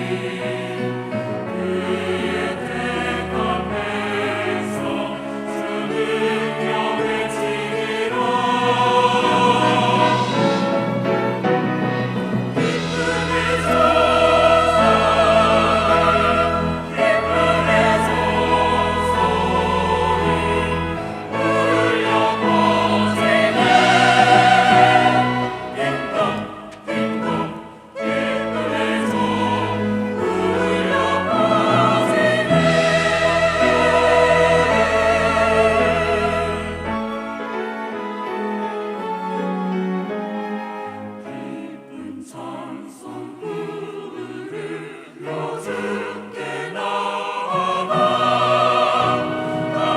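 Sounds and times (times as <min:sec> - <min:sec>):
instrumental accompaniment: 0:00.0 - 0:42.6
choir singing: 0:00.0 - 0:49.9.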